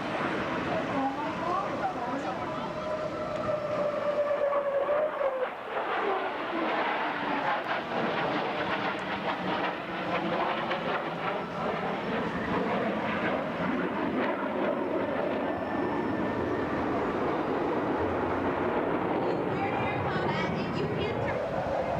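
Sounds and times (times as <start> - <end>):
jet engine running: 0.0 - 21.9.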